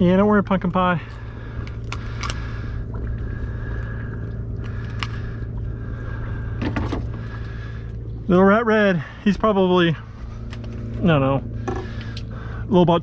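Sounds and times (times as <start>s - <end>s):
faint whine: 0.0s - 13.0s
low mechanical hum: 0.0s - 13.0s.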